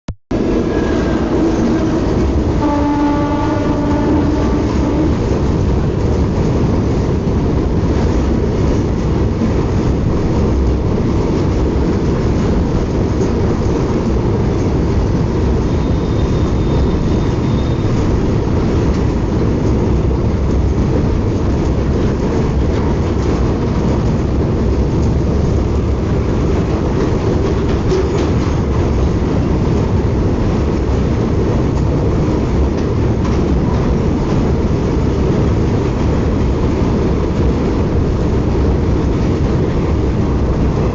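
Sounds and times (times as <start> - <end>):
train wheels rumbling on rails: 0.3 - 40.9.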